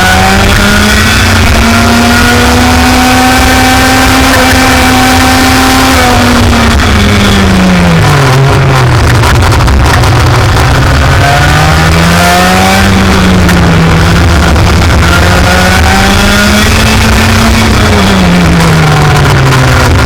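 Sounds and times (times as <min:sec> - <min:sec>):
racing kart engine at full throttle: 0:00.0 - 0:20.0.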